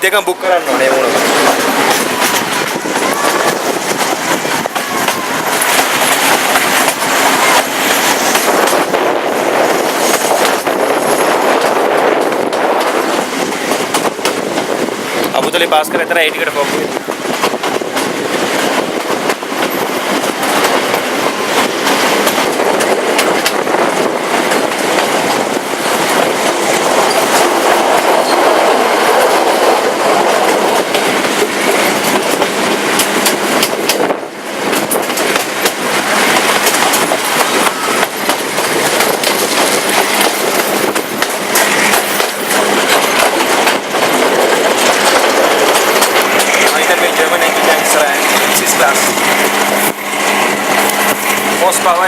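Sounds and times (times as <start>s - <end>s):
train wheels clicking over rail joints: 0.1s - 52.0s.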